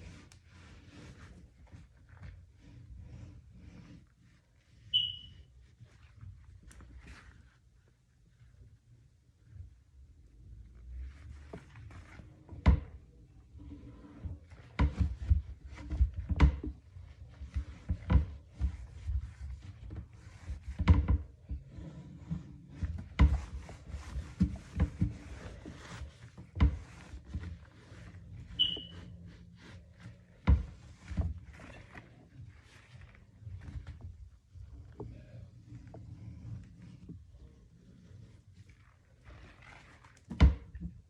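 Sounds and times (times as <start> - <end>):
rubbing on wood: 0.0 - 7.6, 13.5 - 40.3.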